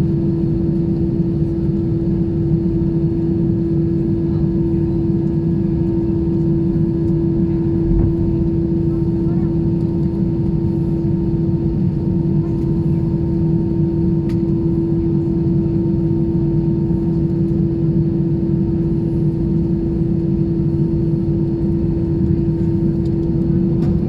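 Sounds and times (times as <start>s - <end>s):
airplane cabin drone: 0.0s - 24.0s.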